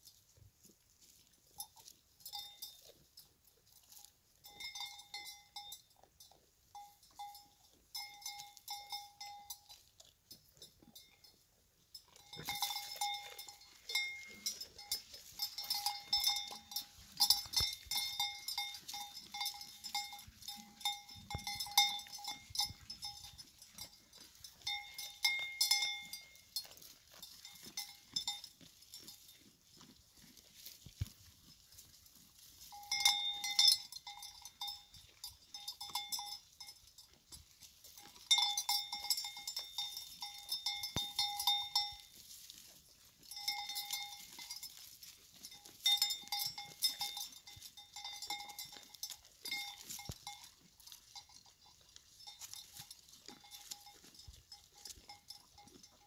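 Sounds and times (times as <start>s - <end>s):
goat bells clinking: 0.0s - 56.0s.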